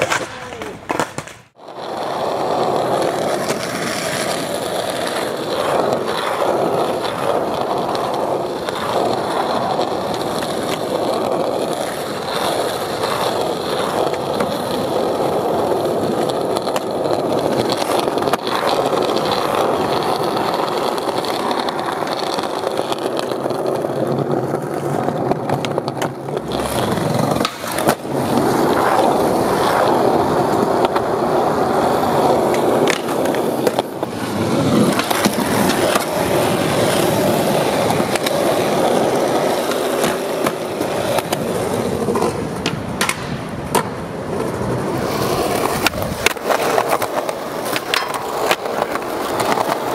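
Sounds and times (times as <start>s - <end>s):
skateboard popping and landing: 0.0s - 49.9s
skateboard wheels rolling on concrete: 0.0s - 49.9s.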